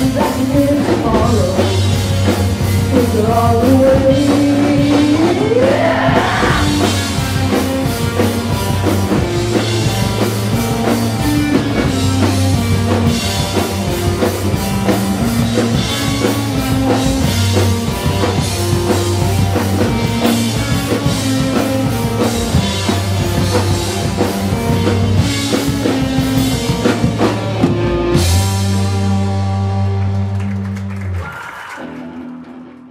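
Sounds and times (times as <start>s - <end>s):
rock music: 0.0s - 32.9s.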